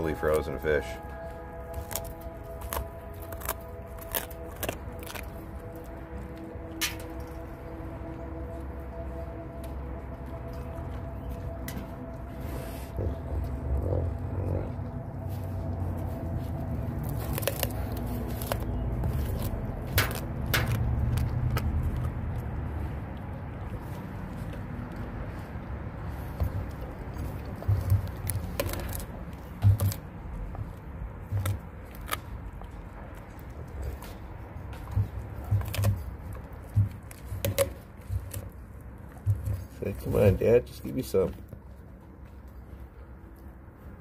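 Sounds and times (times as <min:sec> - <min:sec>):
dog crunching fish bones: 0:00.0 - 0:44.0
steady low rumble: 0:00.0 - 0:44.0.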